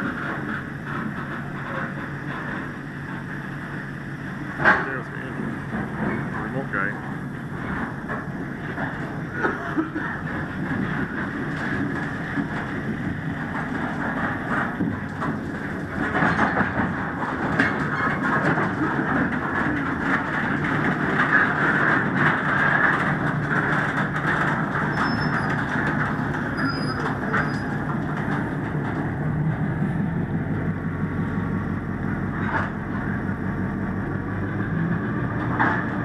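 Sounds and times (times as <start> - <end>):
rail car knocks: 0.0 - 36.0
steel wheels rolling on rail: 0.0 - 36.0.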